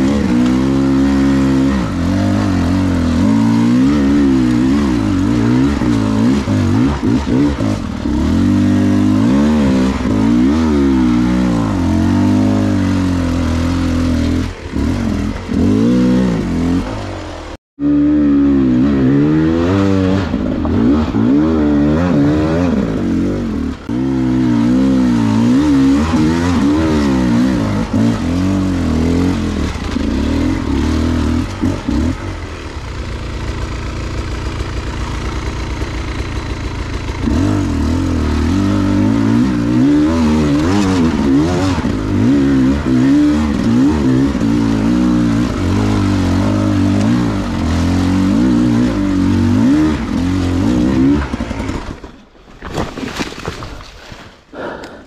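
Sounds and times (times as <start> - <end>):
two-stroke motorcycle engine revving: 0.0 - 52.3.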